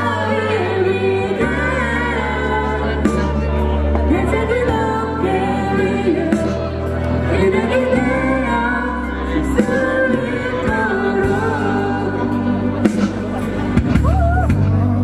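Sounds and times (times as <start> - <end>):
low bass notes: 0.0 - 15.0
vocal group singing in harmony: 0.0 - 15.0.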